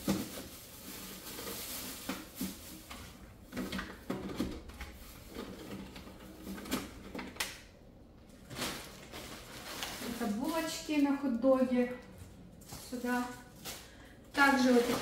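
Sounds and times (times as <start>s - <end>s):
plastic packaging rustling: 0.0s - 15.0s.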